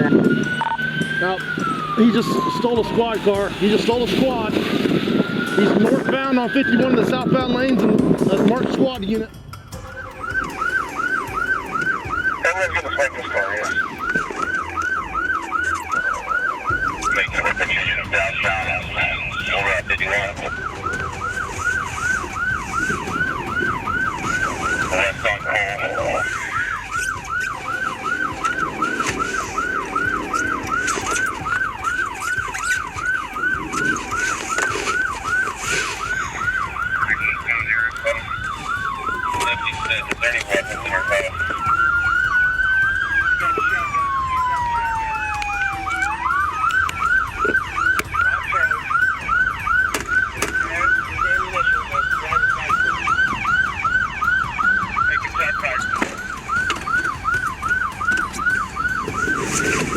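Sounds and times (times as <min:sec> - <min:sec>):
police siren yelping: 0:00.0 - 0:59.9
siren wailing: 0:00.0 - 0:59.9.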